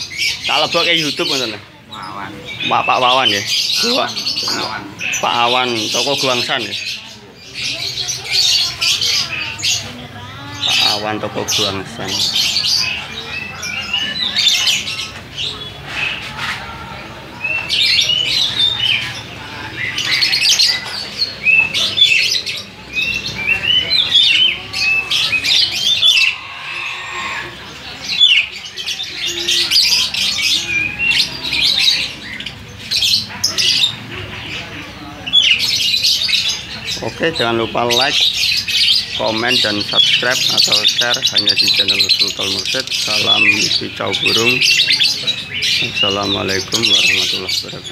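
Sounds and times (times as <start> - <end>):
caged birds chirping and squawking: 0.0 - 47.9.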